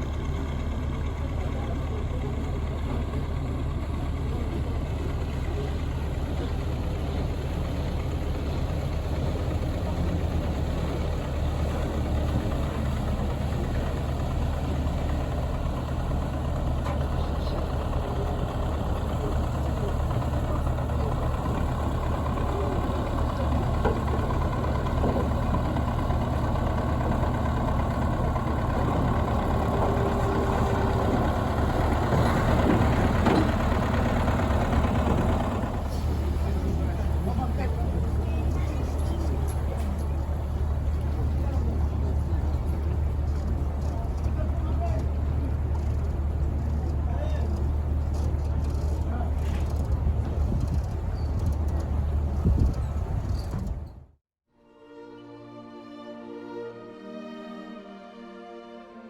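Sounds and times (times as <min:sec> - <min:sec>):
ship engines droning: 0:00.0 - 0:54.0.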